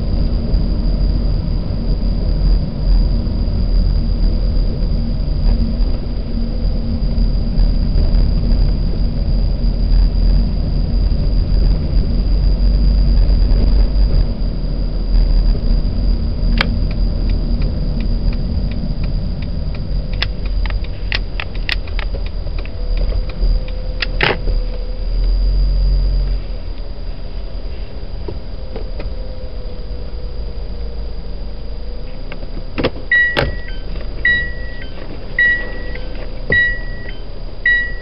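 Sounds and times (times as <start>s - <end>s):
car engine rumble: 0.0s - 38.0s
road noise: 0.0s - 38.0s.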